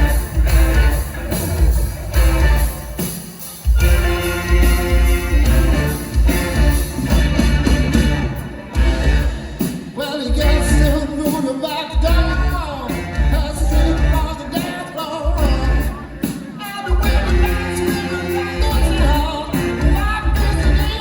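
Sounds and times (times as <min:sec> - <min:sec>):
live rock band: 0:00.0 - 0:21.0
person singing: 0:03.5 - 0:21.0.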